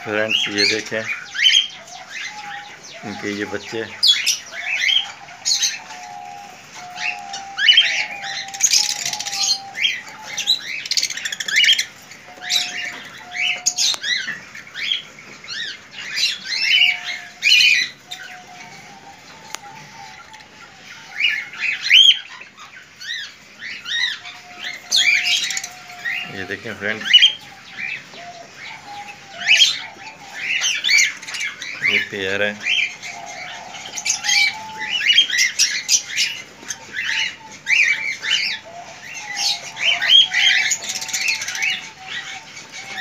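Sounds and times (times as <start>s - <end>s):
cockatiels chirping and squawking: 0.0s - 43.0s.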